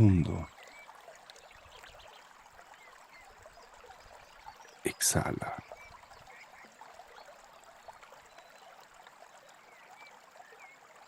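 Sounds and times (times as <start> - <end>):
faint babbling stream: 0.0 - 11.0.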